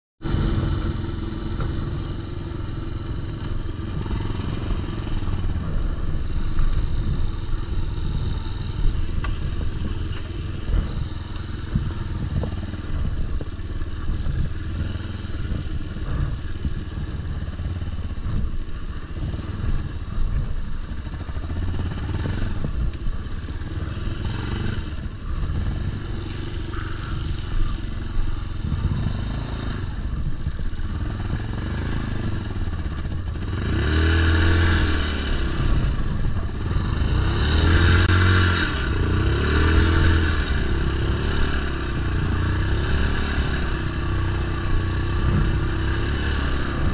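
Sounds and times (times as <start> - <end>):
motorcycle engine running: 0.2 - 46.9.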